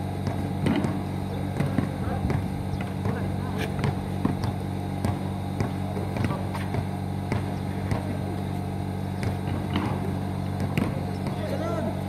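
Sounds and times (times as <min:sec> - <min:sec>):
basketball bouncing on asphalt: 0:00.0 - 0:11.8
low mechanical hum: 0:00.0 - 0:12.0.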